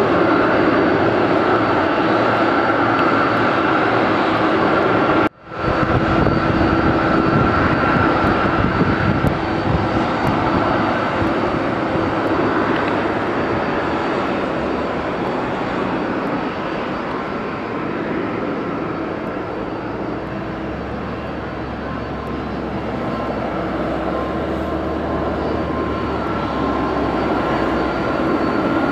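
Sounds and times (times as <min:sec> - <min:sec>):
airliner engines whining: 0:00.0 - 0:28.9.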